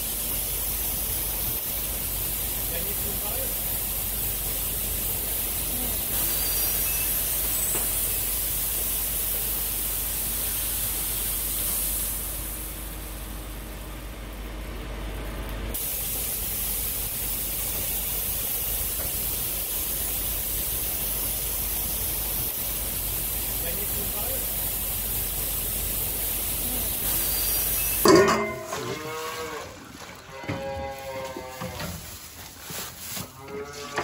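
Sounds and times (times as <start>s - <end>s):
grain pouring with rushing hiss: 0.0s - 14.1s, 15.7s - 29.9s, 31.0s - 34.0s.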